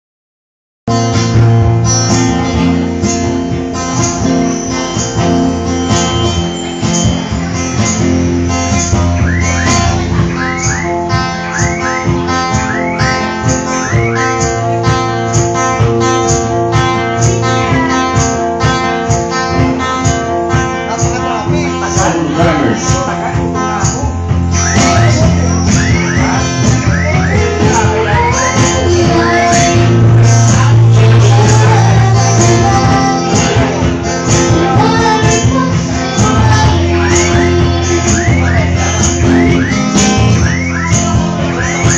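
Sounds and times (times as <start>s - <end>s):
live band instrumental music: 0.9s - 41.9s.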